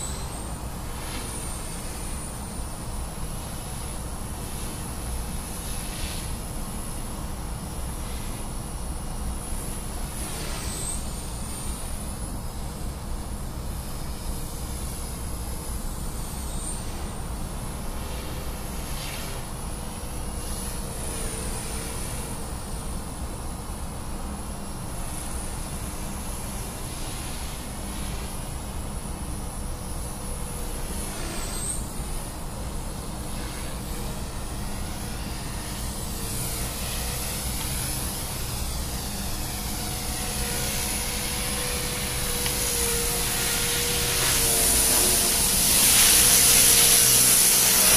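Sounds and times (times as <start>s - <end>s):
rc helicopter motor whining: 0.0s - 23.9s, 24.7s - 47.9s.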